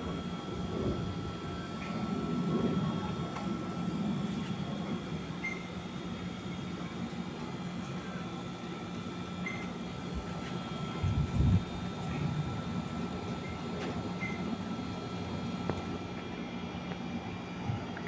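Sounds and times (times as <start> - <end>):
aircraft engine drone: 0.0 - 17.6.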